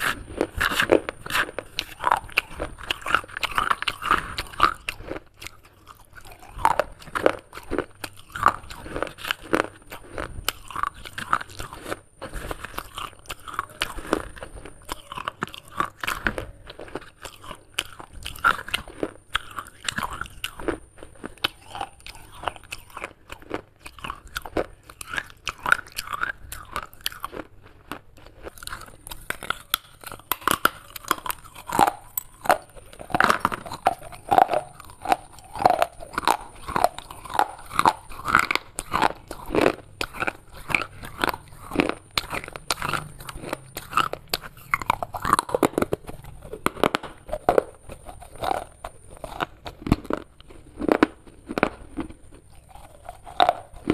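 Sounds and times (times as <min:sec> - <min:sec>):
crunching and chewing clay: 0:00.0 - 0:53.9.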